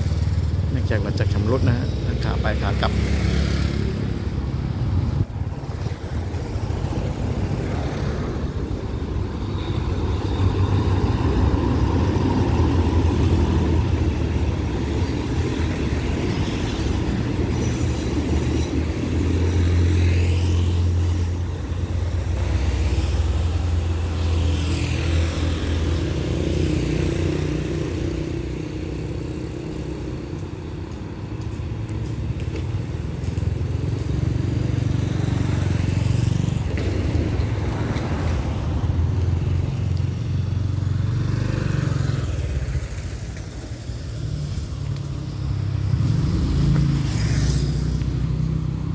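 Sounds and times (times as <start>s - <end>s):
locomotive engine drone: 0.0s - 48.9s
train coaches rolling on rails: 3.9s - 41.0s, 42.0s - 48.9s.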